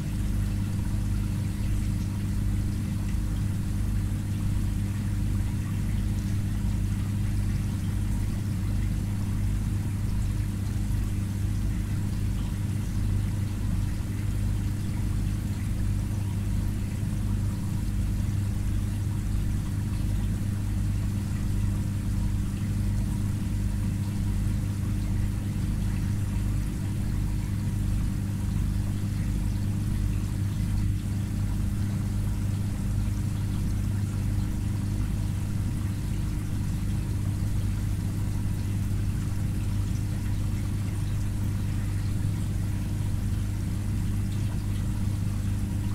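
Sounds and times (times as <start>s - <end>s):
aquarium filter pump humming: 0.0s - 45.9s
faint moving water: 0.0s - 45.9s.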